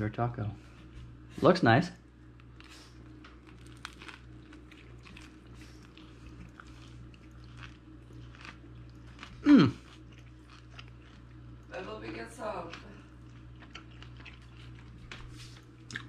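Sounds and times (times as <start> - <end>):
person chewing taco: 2.2 - 11.7, 12.7 - 16.0.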